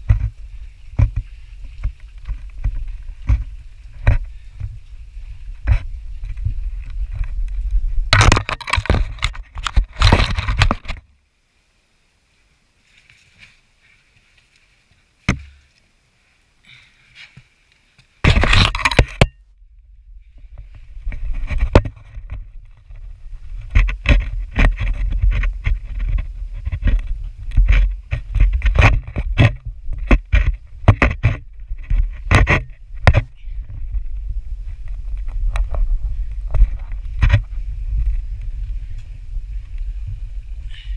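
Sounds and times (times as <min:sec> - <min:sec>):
wind on microphone: 0:00.0 - 0:11.0, 0:18.3 - 0:40.9.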